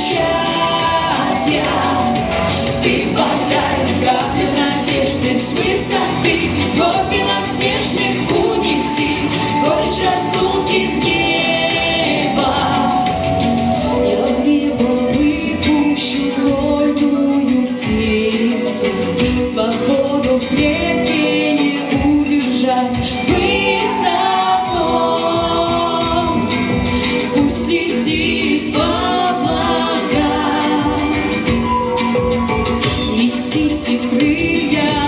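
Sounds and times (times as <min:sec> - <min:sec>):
instrumental backing with steady beat: 0:00.0 - 0:35.0
woman singing with vibrato: 0:00.0 - 0:35.0.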